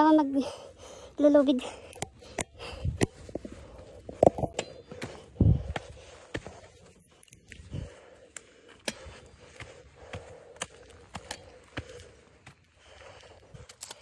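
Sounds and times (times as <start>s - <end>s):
footsteps crunching on dirt: 1.3s - 14.0s.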